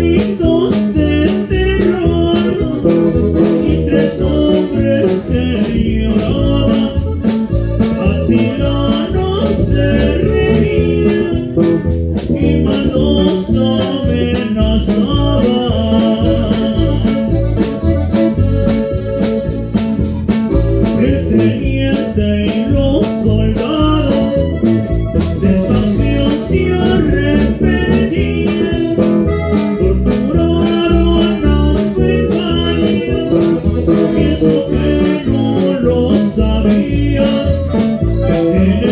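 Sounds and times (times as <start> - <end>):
accordion runs: 0.0 - 38.9
bajo sexto: 0.0 - 38.9
bass: 0.0 - 38.9
steady drum beat: 0.0 - 38.9.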